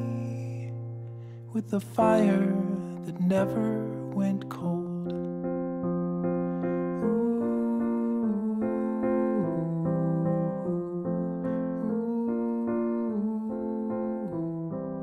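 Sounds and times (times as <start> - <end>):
piano playing sustained chords: 0.0 - 15.0.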